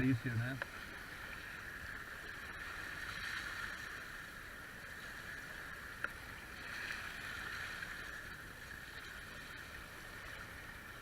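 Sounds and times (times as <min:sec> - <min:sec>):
water rushing along hulls: 0:00.0 - 0:11.0.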